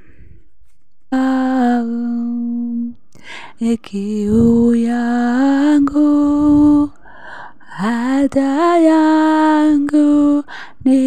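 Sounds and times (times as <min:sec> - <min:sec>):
woman singing: 0:01.1 - 0:07.0, 0:07.6 - 0:11.0.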